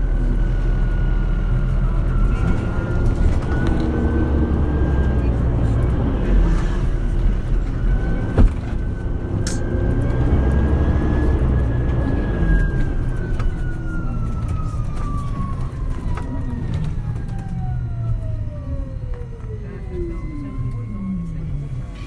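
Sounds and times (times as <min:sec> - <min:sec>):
bus diesel engine: 0:00.0 - 0:22.0.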